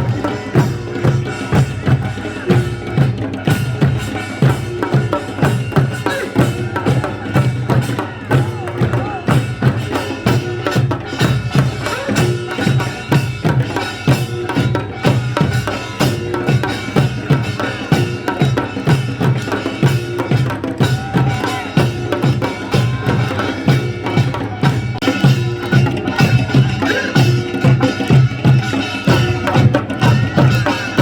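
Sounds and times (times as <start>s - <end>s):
fast steady drum beat: 0.0s - 31.0s.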